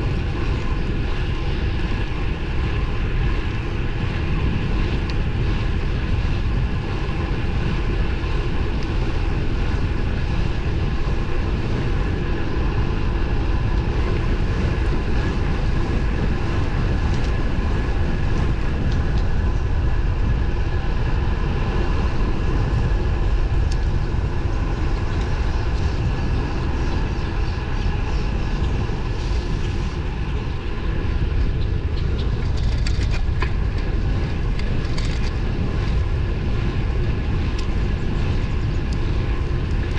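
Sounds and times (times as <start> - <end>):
tyre and drivetrain hum: 0.0 - 39.9
wind rushing over microphone: 0.0 - 39.9.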